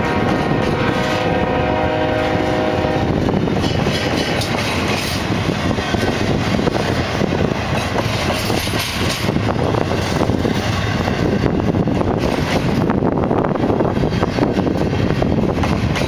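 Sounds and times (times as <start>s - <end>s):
steel wheels running on rails: 0.0s - 16.0s.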